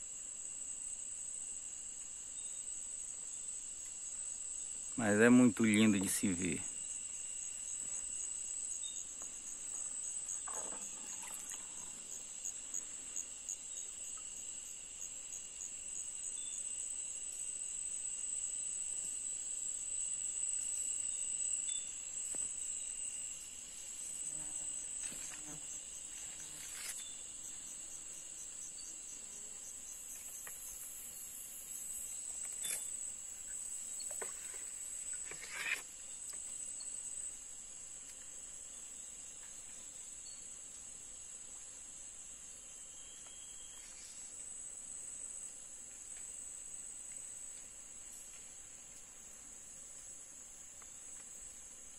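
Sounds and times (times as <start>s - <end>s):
insects buzzing: 0.0s - 51.9s.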